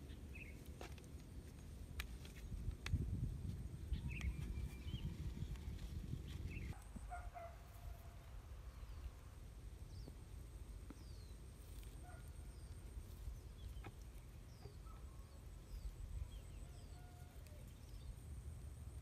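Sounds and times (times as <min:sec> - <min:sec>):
small birds chirping: 0:00.0 - 0:02.8, 0:03.7 - 0:18.4
low rumble of wind: 0:00.0 - 0:19.0.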